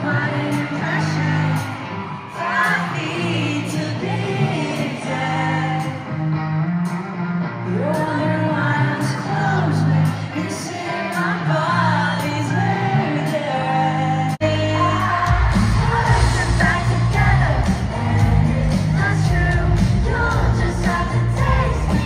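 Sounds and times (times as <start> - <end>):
pop music with singing: 0.0 - 22.0.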